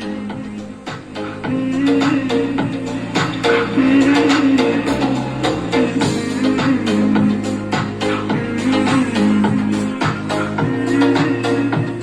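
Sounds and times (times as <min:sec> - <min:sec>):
music through small speaker: 0:00.0 - 0:12.0.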